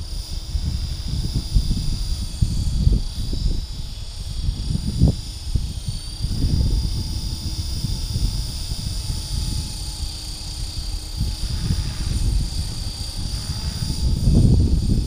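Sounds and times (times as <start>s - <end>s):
rc helicopter whine: 0.0s - 15.0s
wind buffeting microphone: 0.0s - 15.0s.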